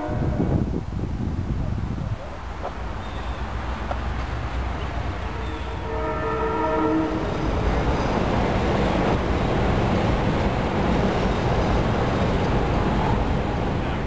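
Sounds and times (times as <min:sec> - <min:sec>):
train rumble and rush: 0:00.0 - 0:14.0.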